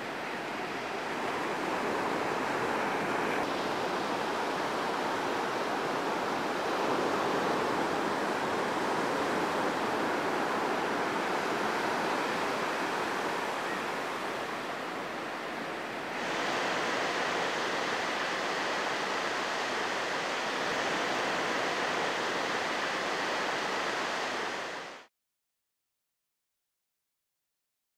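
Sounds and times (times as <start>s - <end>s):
ocean surf washing on beach: 0.0s - 25.1s.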